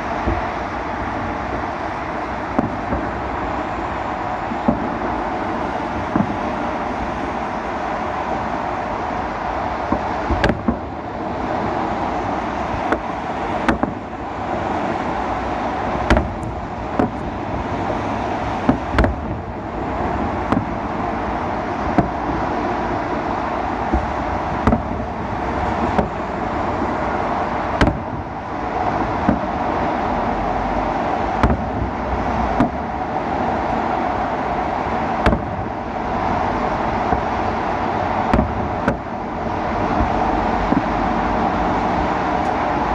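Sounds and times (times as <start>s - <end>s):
fireworks bangs: 0.0s - 30.0s, 31.0s - 41.5s
city background noise: 0.0s - 42.9s.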